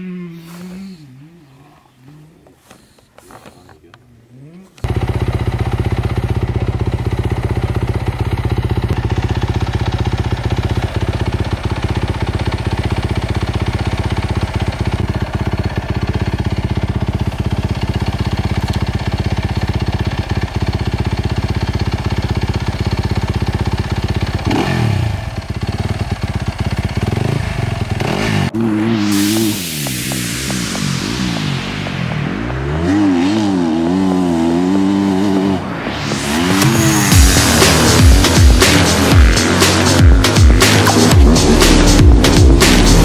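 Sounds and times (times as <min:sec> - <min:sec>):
dirt bike engine running: 0:04.4 - 0:43.0.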